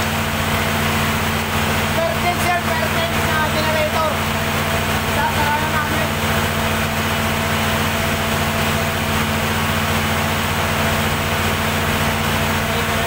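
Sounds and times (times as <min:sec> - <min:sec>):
diesel generator drone: 0:00.0 - 0:13.0.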